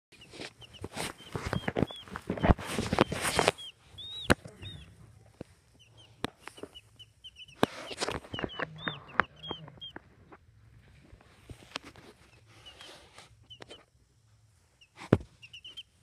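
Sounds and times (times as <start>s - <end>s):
baby chicks peeping: 0.1s - 16.0s.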